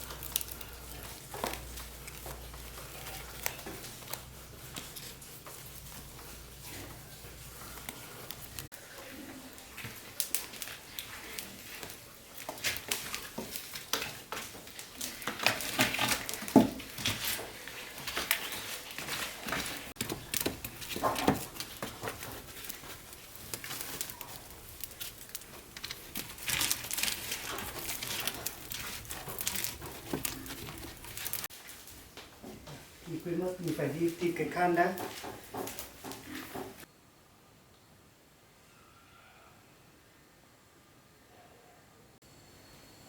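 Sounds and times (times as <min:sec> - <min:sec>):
rustling and crinkling: 0:00.0 - 0:36.9.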